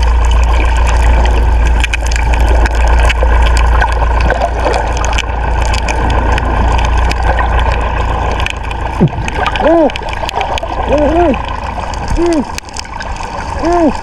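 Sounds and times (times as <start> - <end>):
boat engine running: 0.0 - 14.0
water rushing along hull: 0.0 - 14.0.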